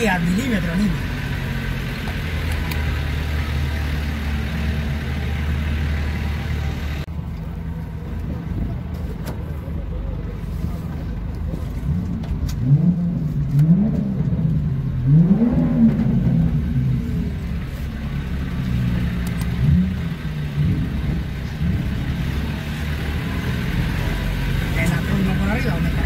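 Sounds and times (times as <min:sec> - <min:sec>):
vehicle engine revving: 0:00.0 - 0:07.1, 0:11.4 - 0:26.0.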